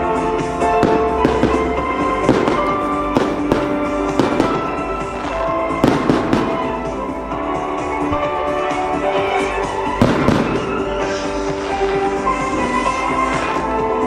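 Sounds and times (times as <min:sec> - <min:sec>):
fireworks bursting with sharp bangs: 0:00.0 - 0:07.2, 0:07.8 - 0:14.0
music playing: 0:00.0 - 0:14.0.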